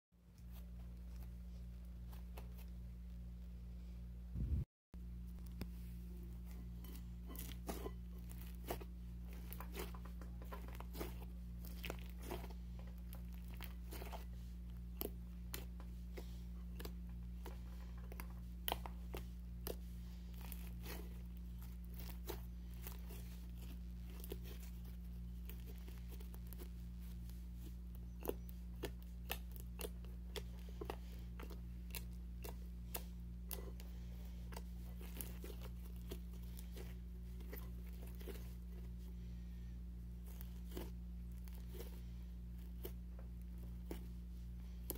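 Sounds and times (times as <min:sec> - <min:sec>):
steady low hum: 0:00.2 - 0:44.9.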